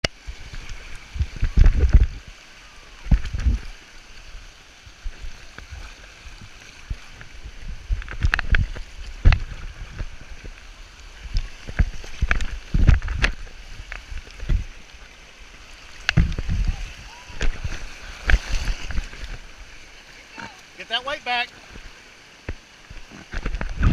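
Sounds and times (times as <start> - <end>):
creek water rushing and splashing: 0.0 - 23.9.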